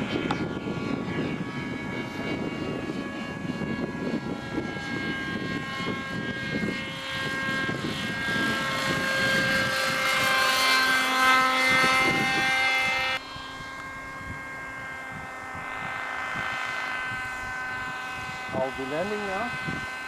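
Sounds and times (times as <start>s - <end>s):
model helicopter engine whine: 0.0s - 20.0s.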